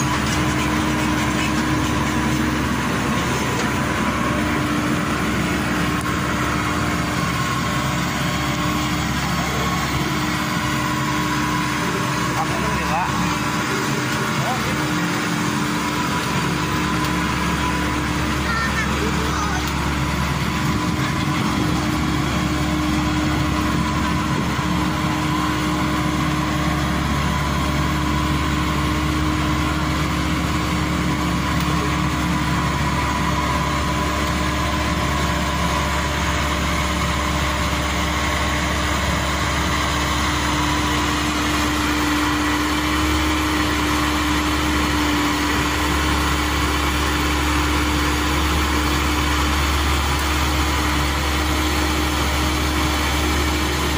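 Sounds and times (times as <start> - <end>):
diesel engine running steadily: 0.0 - 53.9.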